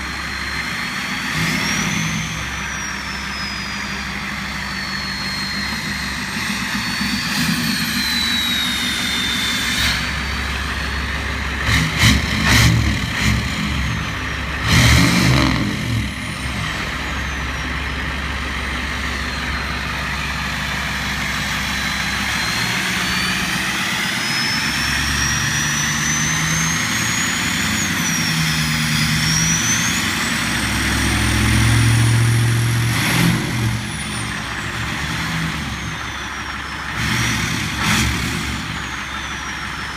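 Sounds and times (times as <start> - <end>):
pickup engine revving: 0.0 - 39.9
turbocharger whistle: 0.0 - 39.9.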